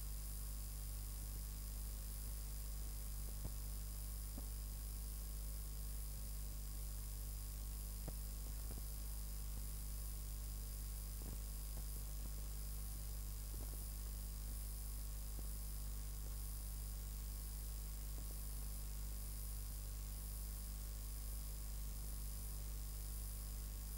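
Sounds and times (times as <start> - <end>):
low electrical mains hum: 0.0 - 23.9.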